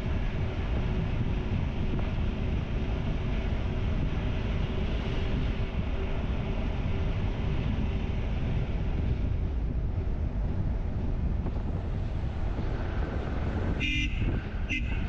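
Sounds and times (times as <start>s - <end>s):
motorcycle engine humming: 0.0s - 15.0s
wind rushing over microphone: 0.0s - 15.0s.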